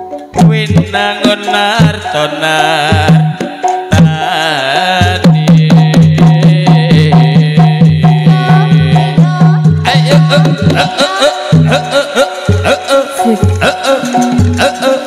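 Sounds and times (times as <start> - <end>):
gamelan melody: 0.0 - 4.9, 6.5 - 15.0
driving drum beat: 0.3 - 15.0.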